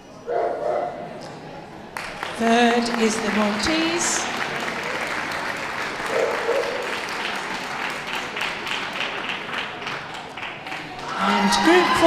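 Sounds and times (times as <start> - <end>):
audience applauding: 1.9 - 12.0.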